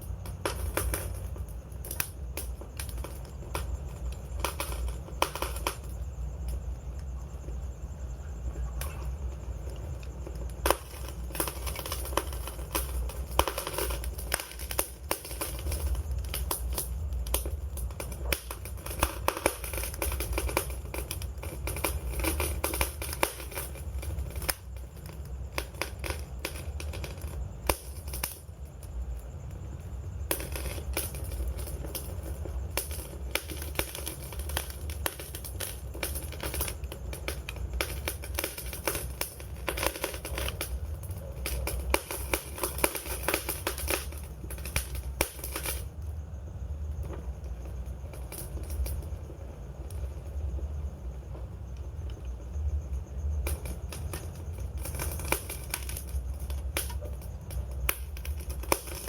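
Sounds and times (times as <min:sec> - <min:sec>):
loud fire snaps: 0:00.0 - 0:59.0
wood fire crackling: 0:00.0 - 0:59.0.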